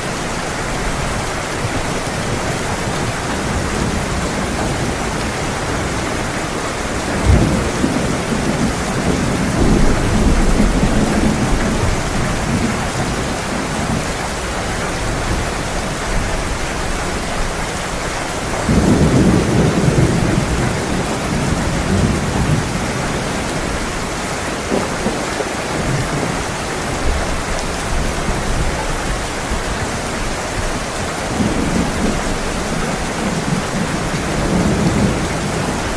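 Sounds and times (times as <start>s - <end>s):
heavy rain pouring: 0.0s - 35.9s
thunder rumbling: 0.4s - 35.9s.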